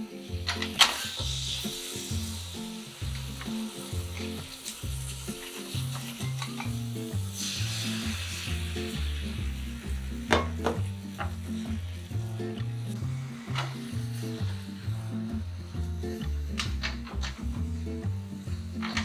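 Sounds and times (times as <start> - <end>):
egg sizzling in a pan: 0.0 - 19.0.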